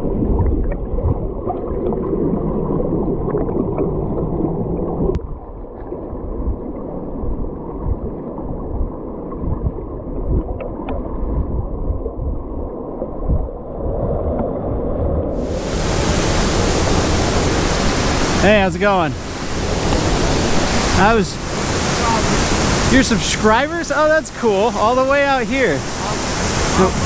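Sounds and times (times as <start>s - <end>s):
stream water gurgling: 0.0s - 14.4s, 15.2s - 27.0s.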